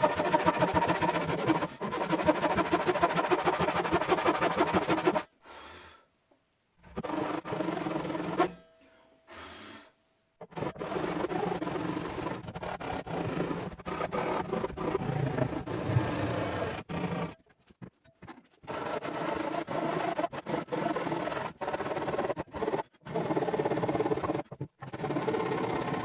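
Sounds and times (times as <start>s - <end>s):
saw cutting wood: 0.0s - 5.3s, 6.8s - 8.6s, 10.4s - 17.4s, 18.4s - 26.0s.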